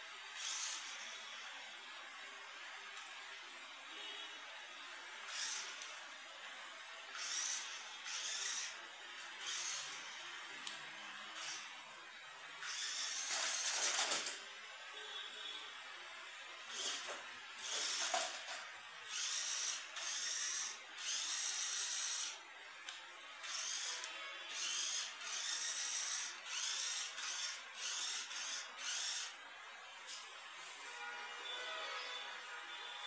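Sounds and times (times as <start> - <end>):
rc car motor and gears whining: 0.0 - 33.0.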